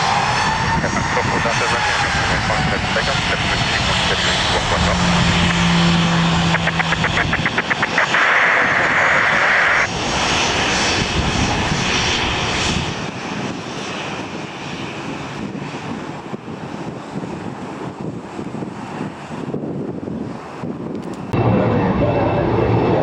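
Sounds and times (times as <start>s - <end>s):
jet engines rumbling with whine: 0.0s - 23.0s.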